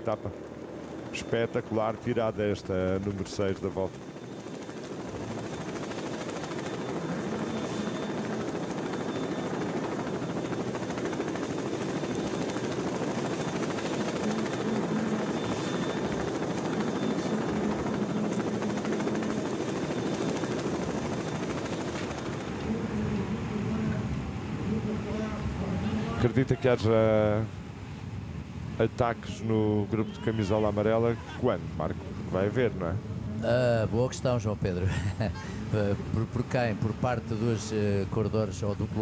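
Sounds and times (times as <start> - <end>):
helicopter rotor drone: 0.0 - 39.0.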